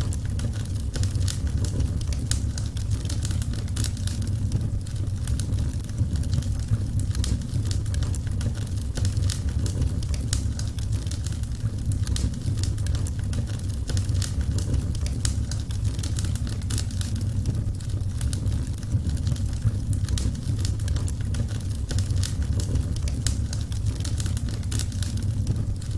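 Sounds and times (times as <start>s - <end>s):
burning wood crackling: 0.0s - 25.9s
low rumble of flames: 0.0s - 25.9s.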